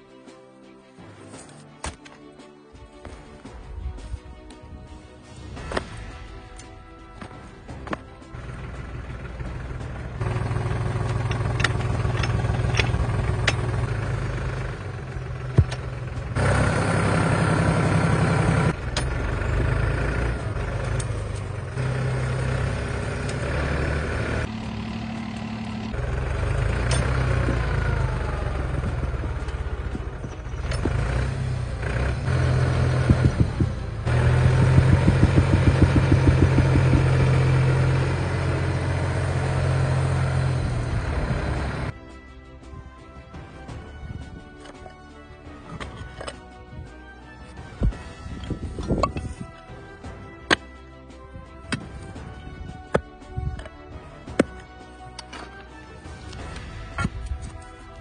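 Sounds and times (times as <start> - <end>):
tractor engine running: 5.5 - 58.0.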